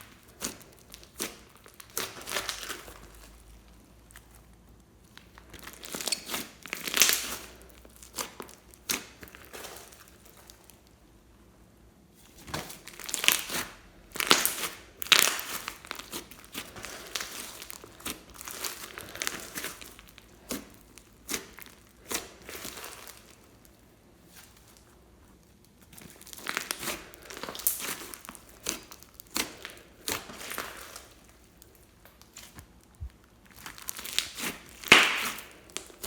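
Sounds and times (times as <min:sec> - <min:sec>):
slime crackling and popping: 0:00.0 - 0:11.0, 0:12.2 - 0:36.0.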